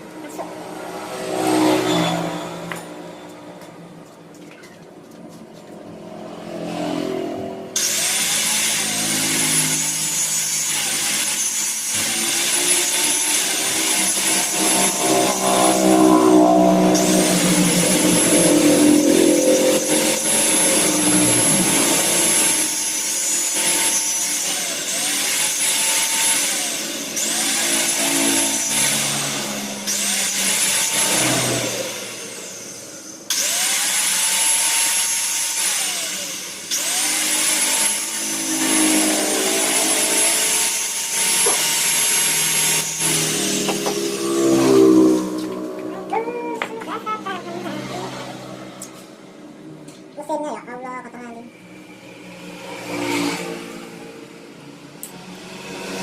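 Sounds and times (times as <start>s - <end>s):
power tool motor whining: 5.9s - 49.2s, 51.6s - 56.0s.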